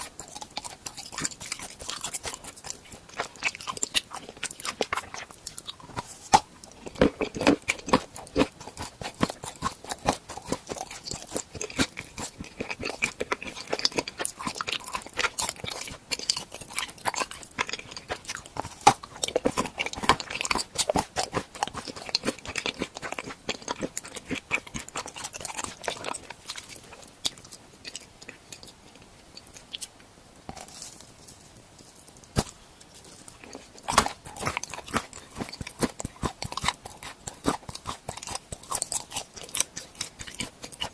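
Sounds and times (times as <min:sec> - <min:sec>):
person crunching and chewing treats: 0:00.0 - 0:40.9.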